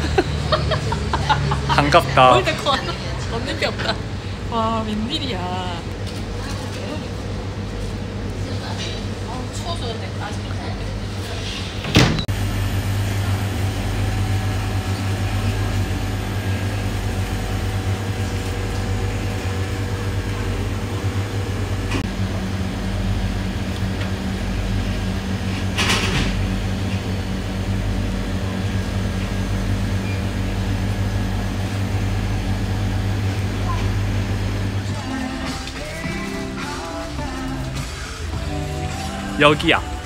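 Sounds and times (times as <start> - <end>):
freezers humming: 0.0 - 40.0.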